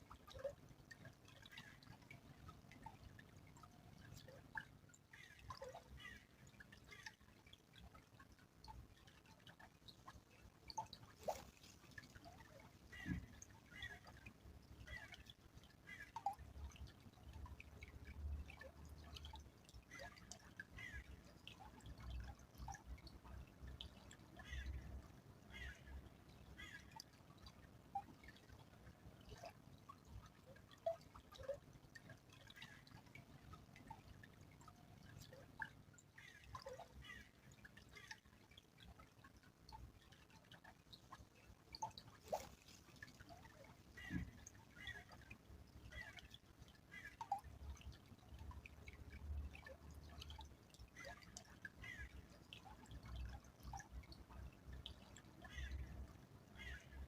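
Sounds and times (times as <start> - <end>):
stream trickling and dripping: 0.0 - 57.0
water plinks and plops: 0.0 - 57.0.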